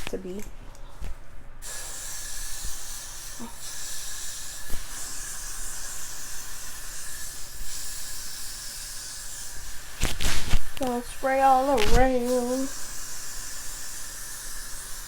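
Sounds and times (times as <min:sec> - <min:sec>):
aerosol spray hissing: 0:01.6 - 0:15.0.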